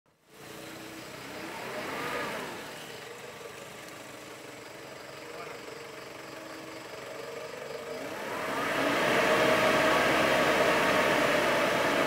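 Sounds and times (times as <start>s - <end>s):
vehicle engine and road noise: 0.1s - 12.0s.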